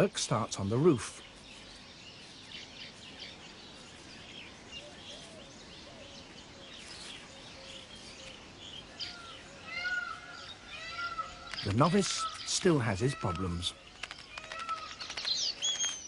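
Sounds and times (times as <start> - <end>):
birds chattering: 0.0 - 16.0.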